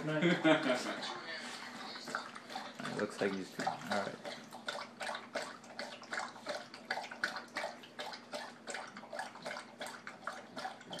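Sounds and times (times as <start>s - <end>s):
dog lapping water from bowl: 1.5s - 11.0s.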